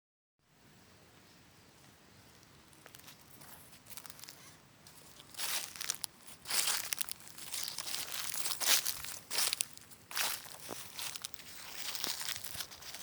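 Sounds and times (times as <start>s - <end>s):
footsteps crunching dry leaves: 2.2s - 13.0s.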